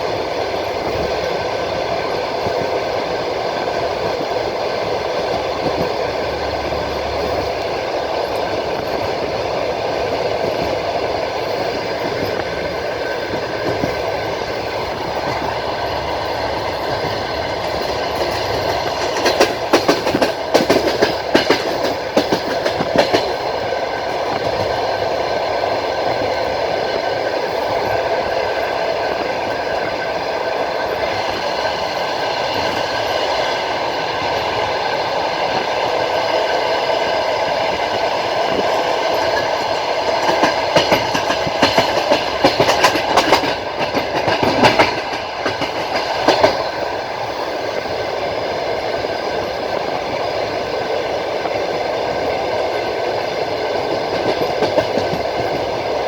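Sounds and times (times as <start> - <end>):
wheel clacks over rail joints: 0.0 - 46.9, 52.2 - 56.0
train rumble and hiss: 0.0 - 56.0.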